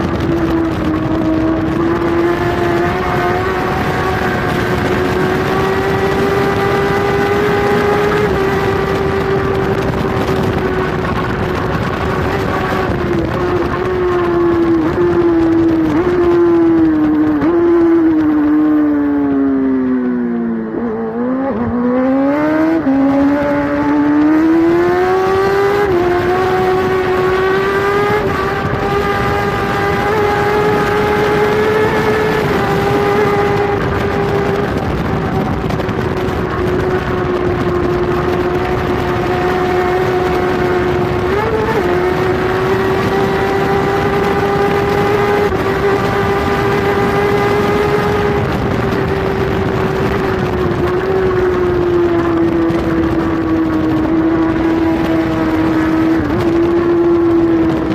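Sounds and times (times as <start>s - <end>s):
superbike engine revving: 0.0s - 57.9s
wind and road noise: 0.0s - 57.9s.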